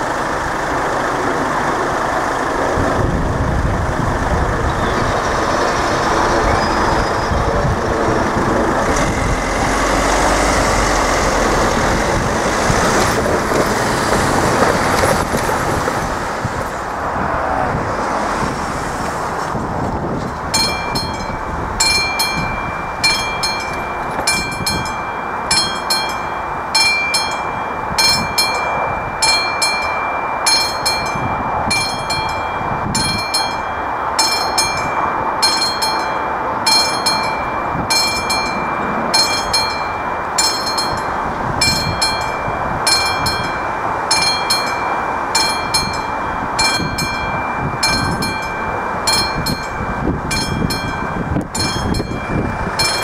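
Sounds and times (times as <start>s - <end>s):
level-crossing warning bell ringing: 0.0s - 17.2s, 19.2s - 53.0s
road traffic noise: 0.0s - 53.0s.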